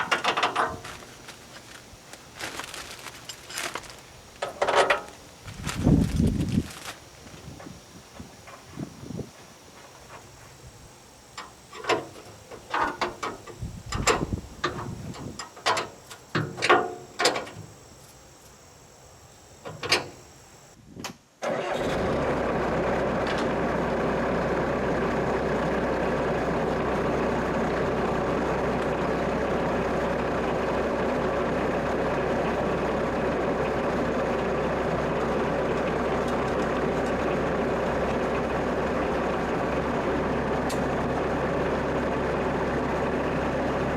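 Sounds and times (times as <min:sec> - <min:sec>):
diesel engine running: 0:00.0 - 0:17.8, 0:21.7 - 0:43.9.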